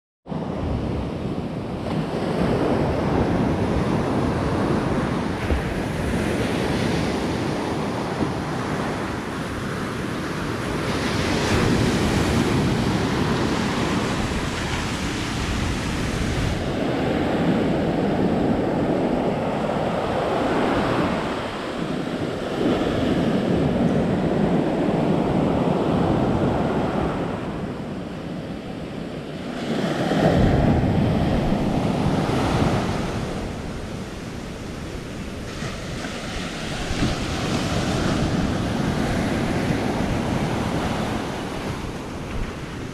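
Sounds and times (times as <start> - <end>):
waves breaking on beach: 0.3 - 42.9
wind buffeting microphone: 0.3 - 42.9.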